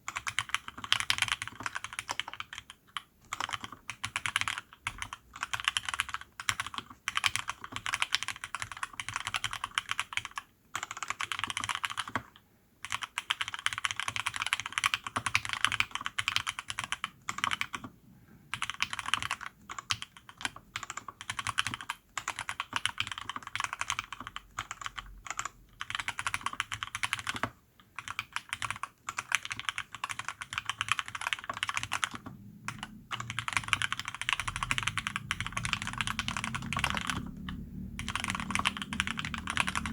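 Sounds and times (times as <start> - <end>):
fast typing on mechanical keyboard: 0.0 - 17.9, 18.5 - 39.9.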